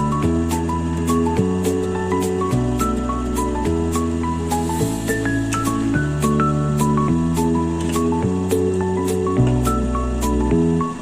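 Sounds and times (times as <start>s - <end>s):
gentle background music: 0.0s - 11.0s.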